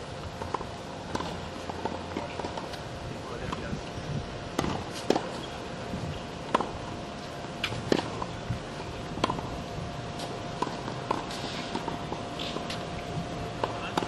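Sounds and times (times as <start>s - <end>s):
faint steady hum: 0.0s - 14.0s
shoes tapping and scuffing on court: 0.3s - 3.9s, 4.5s - 9.5s, 10.1s - 14.0s.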